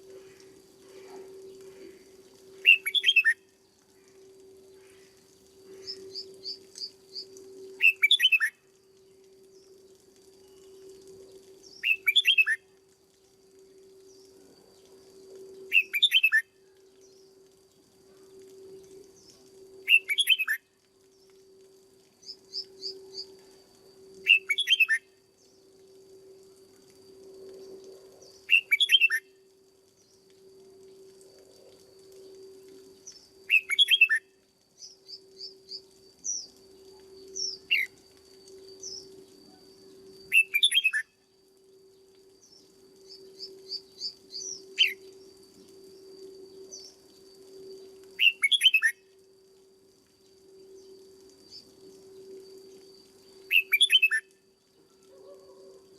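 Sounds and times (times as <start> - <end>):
faint steady hum: 0.0 - 55.9
soft bird chirps: 0.2 - 21.4, 24.2 - 25.8, 27.5 - 30.3, 32.1 - 49.2, 50.3 - 55.9
bulbul singing: 1.2 - 14.4, 15.2 - 17.7, 18.3 - 21.4, 22.2 - 23.4, 24.0 - 26.1, 27.6 - 30.6, 32.1 - 49.3, 50.4 - 55.6.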